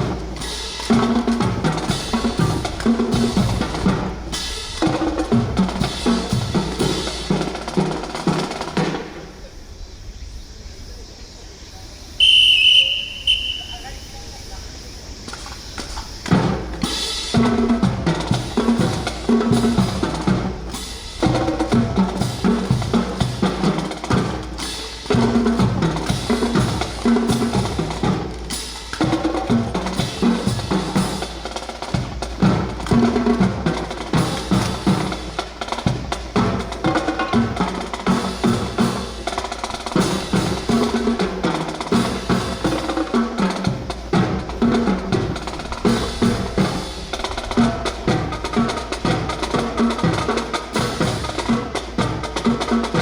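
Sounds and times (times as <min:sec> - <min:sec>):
bass drum beat: 0:00.0 - 0:09.0, 0:16.3 - 0:53.0
snare drum: 0:00.0 - 0:09.2, 0:12.2 - 0:13.7, 0:16.2 - 0:53.0
drum rolls: 0:00.0 - 0:09.8, 0:12.2 - 0:14.4, 0:15.0 - 0:53.0.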